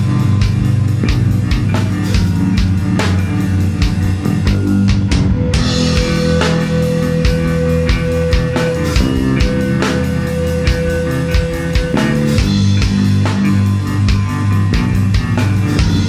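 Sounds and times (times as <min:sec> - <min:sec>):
drum kit hitting: 0:00.0 - 0:16.0
rock band playing: 0:00.0 - 0:16.0.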